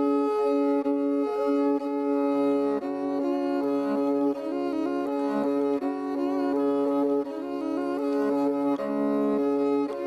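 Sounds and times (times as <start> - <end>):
bowed string instrument melody: 0.0 - 10.0.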